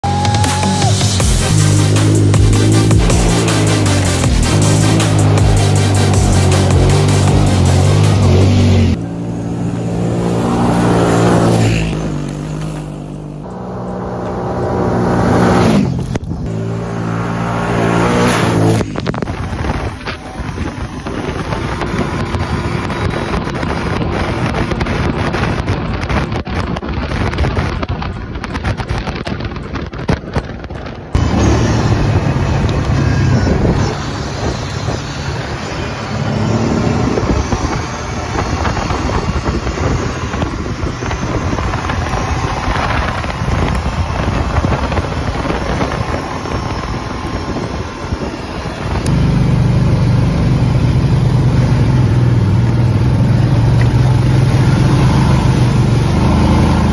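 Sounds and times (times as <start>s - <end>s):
atv engine running: 0.1s - 56.9s
wind rushing over microphone: 5.1s - 56.9s.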